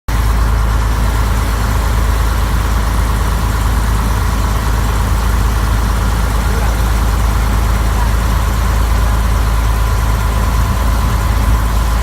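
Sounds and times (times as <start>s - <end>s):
deep low rumble: 0.1s - 12.0s
rain falling on a boat: 0.1s - 12.0s.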